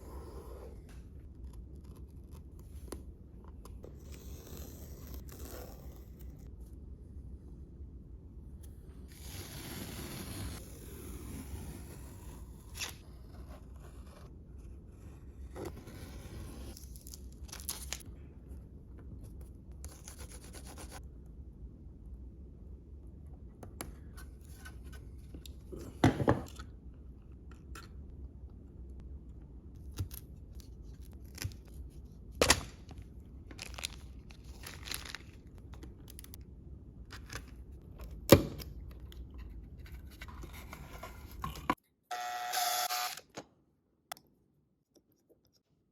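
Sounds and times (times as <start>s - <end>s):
low steady hum: 0.0s - 9.4s, 10.6s - 41.8s.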